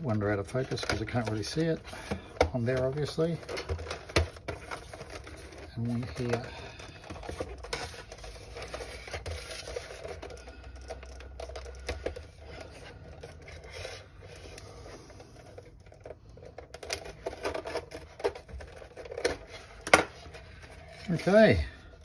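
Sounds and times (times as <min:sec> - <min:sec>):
plastic scratching and scraping: 0:00.0 - 0:22.0.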